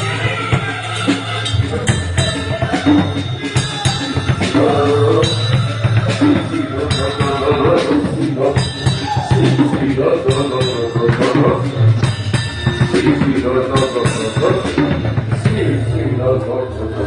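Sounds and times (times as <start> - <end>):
drum kit beat: 0.0 - 16.3
bass line: 0.0 - 17.0
live band playing: 0.0 - 17.0.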